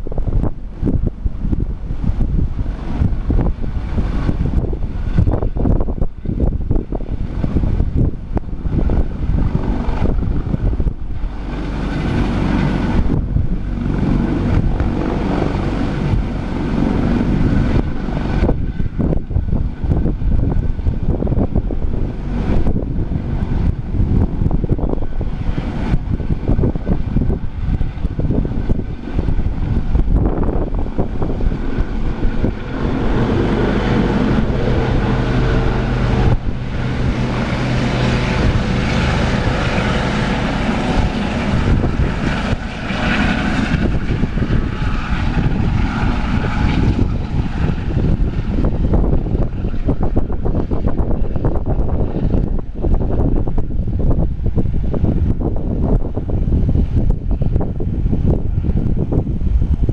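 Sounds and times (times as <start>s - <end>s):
helicopter running: 0.0s - 59.9s
steady hum: 0.0s - 59.9s.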